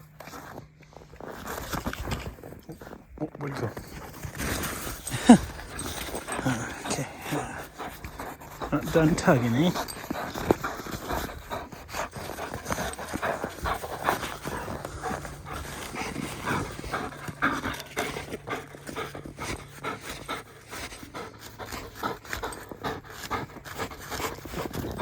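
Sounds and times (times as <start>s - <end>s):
scuffling noises: 0.0s - 25.0s
dog panting: 0.1s - 25.0s.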